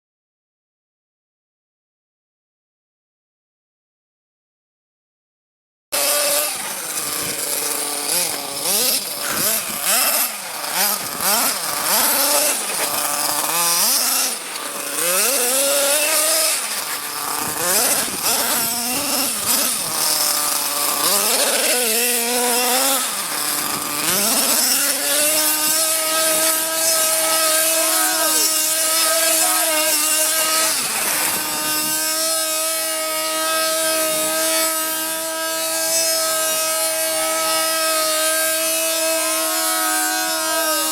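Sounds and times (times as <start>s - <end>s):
small model engine revving: 6.0s - 40.9s.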